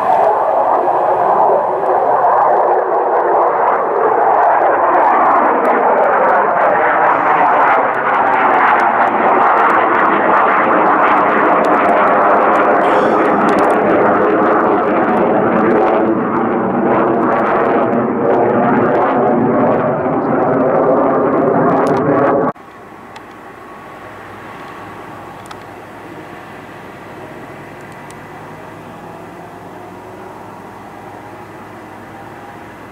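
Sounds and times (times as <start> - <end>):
distant aircraft engine: 0.0 - 32.9
fighter jet flying overhead: 0.0 - 32.9.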